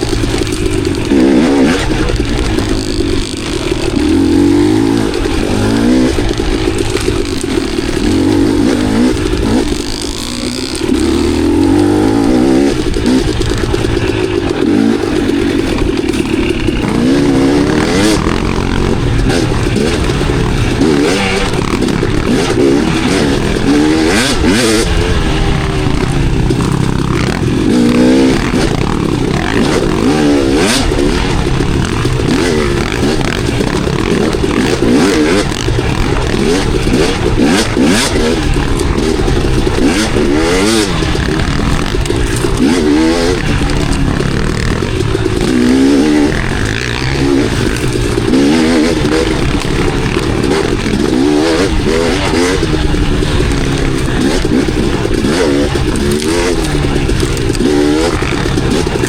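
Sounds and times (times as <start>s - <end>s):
dirt bike engine revving: 0.0s - 59.0s
knocks and clatter from bike: 0.0s - 59.0s.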